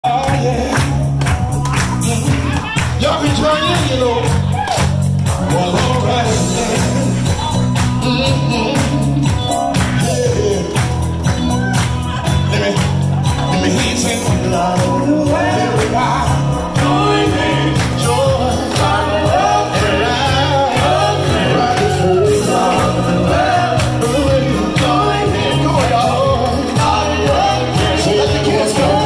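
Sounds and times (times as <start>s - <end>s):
bass line and drum beat: 0.0s - 29.0s
soul vocal group singing: 5.4s - 29.0s.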